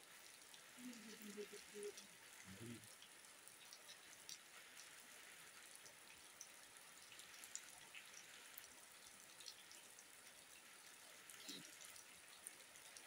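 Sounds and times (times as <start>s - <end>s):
rain hissing: 0.0s - 13.0s
raindrops ticking on surfaces: 0.0s - 13.0s.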